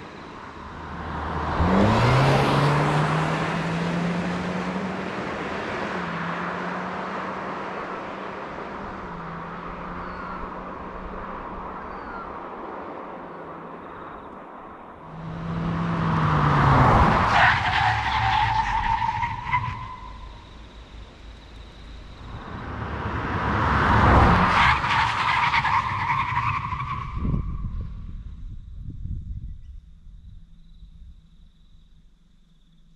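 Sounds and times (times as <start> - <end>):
car driving past: 0.5 - 27.4.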